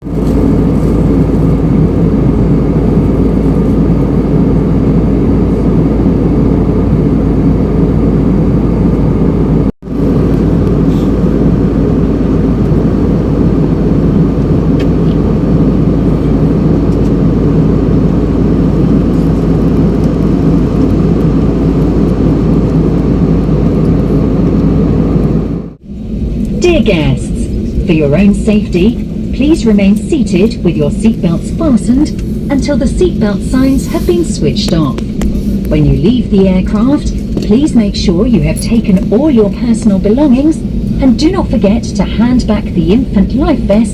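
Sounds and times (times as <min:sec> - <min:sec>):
jet airliner cabin drone: 0:00.0 - 0:43.9.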